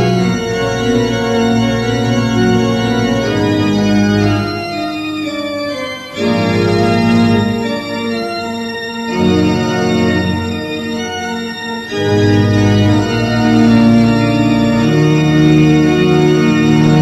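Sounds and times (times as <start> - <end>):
organ playing held chords: 0.0 - 17.0.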